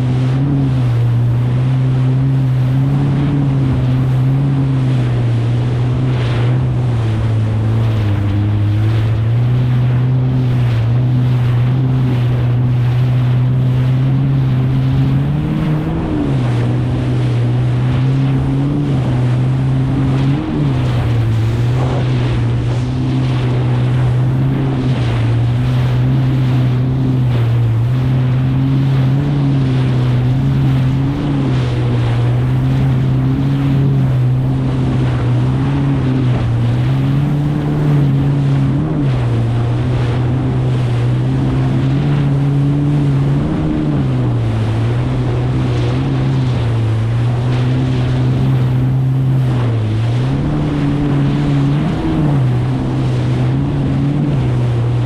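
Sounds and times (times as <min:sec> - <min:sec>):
jet ski engine running: 0:00.0 - 0:55.0
rush of water and wind: 0:00.0 - 0:55.0.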